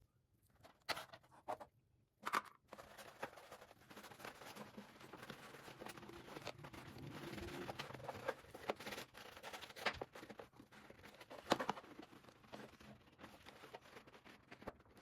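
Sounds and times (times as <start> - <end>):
rustling and scratching: 2.7 - 15.0.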